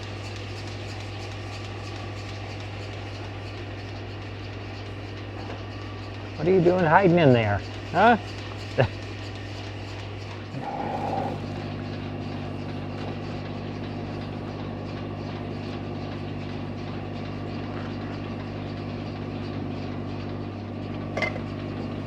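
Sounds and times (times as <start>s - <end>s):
machine humming: 0.0s - 22.0s.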